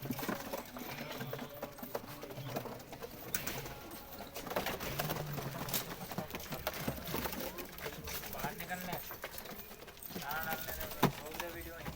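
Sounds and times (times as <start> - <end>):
clicks and rustles: 0.0 - 11.9.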